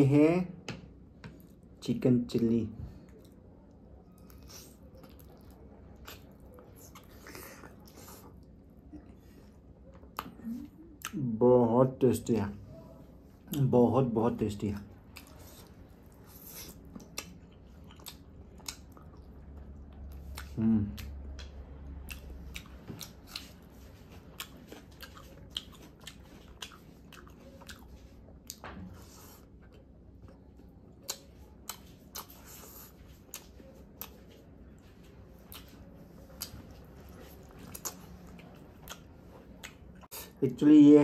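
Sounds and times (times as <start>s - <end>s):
person chewing with wet smacks: 0.9s - 12.6s, 13.2s - 40.4s.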